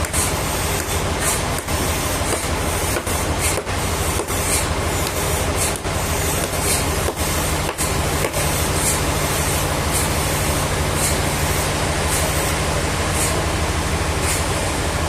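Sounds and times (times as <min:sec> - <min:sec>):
sawmill machinery humming: 0:00.0 - 0:15.0.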